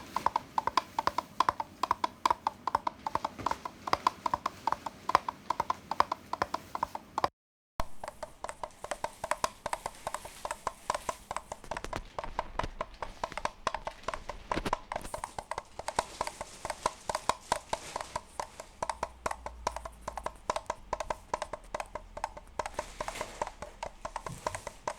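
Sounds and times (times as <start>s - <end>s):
hollow clip-clop hoof knocks: 0.0s - 24.9s.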